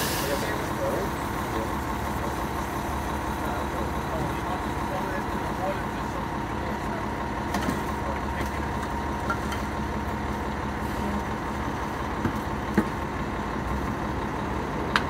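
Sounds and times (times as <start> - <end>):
fire engine idling: 0.0 - 15.0.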